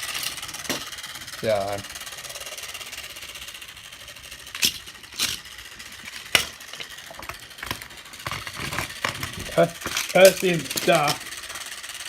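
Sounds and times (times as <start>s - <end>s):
small motor running: 0.0s - 12.0s.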